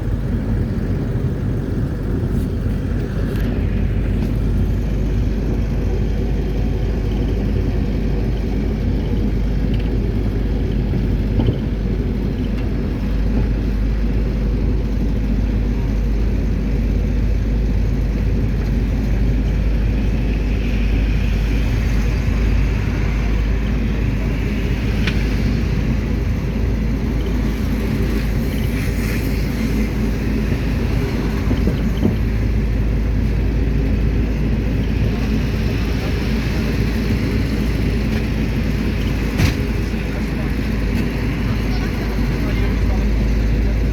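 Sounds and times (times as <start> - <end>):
engine drone: 0.0 - 43.9
road rumble: 0.0 - 43.9.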